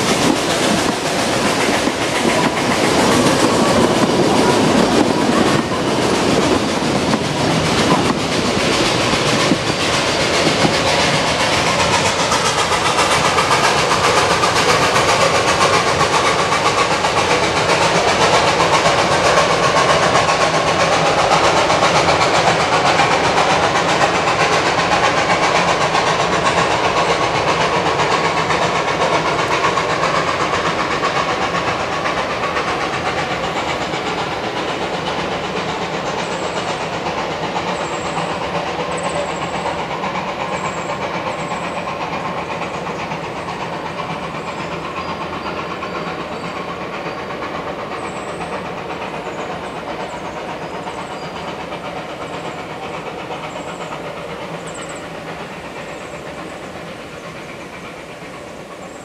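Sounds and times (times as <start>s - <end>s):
steam train running: 0.0s - 59.0s.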